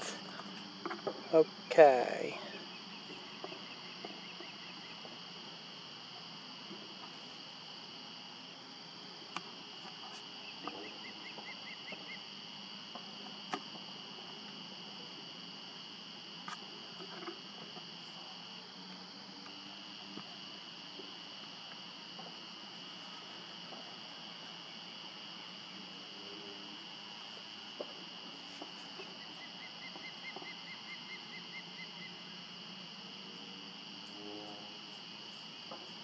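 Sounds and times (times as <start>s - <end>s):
evening chorus of calling animals: 0.0s - 36.0s.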